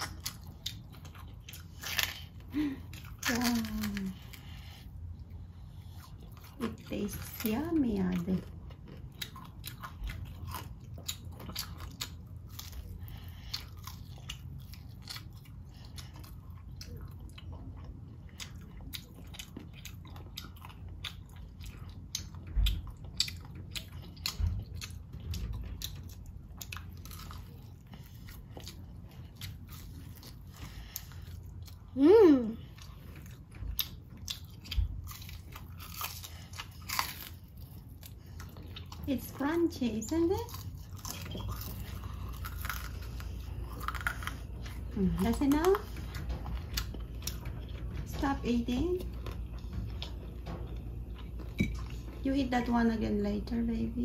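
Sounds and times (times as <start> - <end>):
child chewing crispy food: 0.0 - 52.6.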